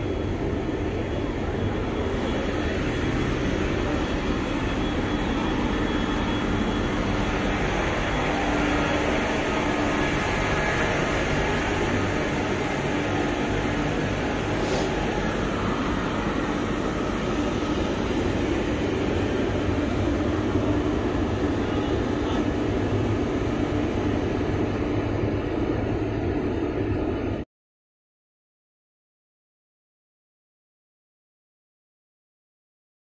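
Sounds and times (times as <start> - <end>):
ship machinery rumble: 0.0 - 27.4.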